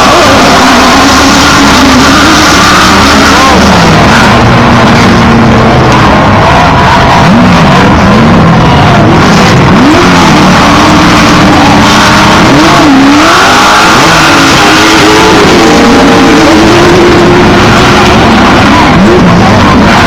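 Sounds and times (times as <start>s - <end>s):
racing engines revving: 0.0s - 20.0s.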